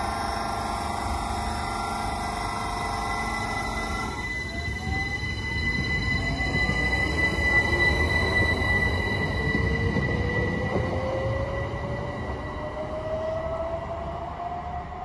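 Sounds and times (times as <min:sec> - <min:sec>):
steady high tone: 0:00.0 - 0:14.5
electric train motors whining: 0:00.0 - 0:15.0
wheels rumbling on rail: 0:00.0 - 0:15.0.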